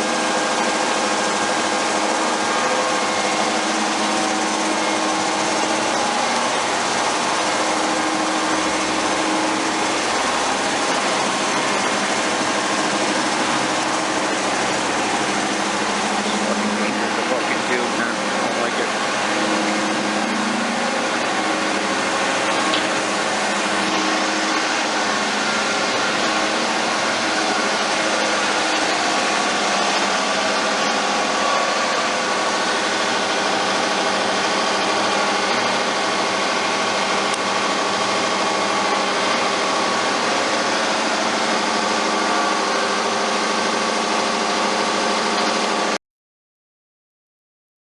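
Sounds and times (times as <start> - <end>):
boring mill machine hum: 0.0 - 46.0
machine whining tones: 0.0 - 46.0.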